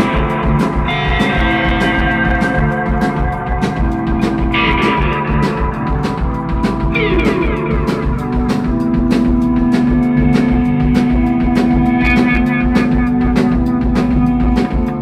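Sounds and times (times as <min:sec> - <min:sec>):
electric guitar playing: 0:00.0 - 0:15.0
steady drum beat: 0:00.0 - 0:15.0.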